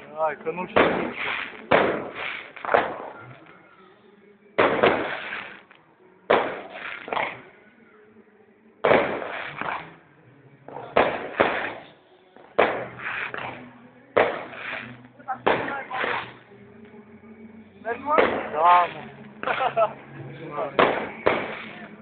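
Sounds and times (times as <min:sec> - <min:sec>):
fireworks bangs: 0:00.0 - 0:03.6, 0:04.5 - 0:07.5, 0:08.8 - 0:10.0, 0:10.7 - 0:16.5, 0:17.9 - 0:22.0.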